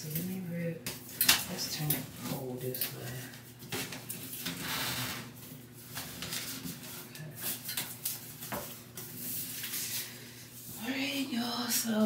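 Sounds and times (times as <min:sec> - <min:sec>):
shower curtain rustling: 0:02.2 - 0:12.0.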